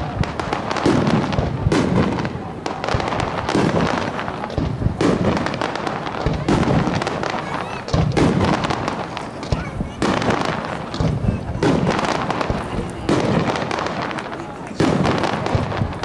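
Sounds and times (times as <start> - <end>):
fireworks bursts and bangs: 0.0 - 16.0.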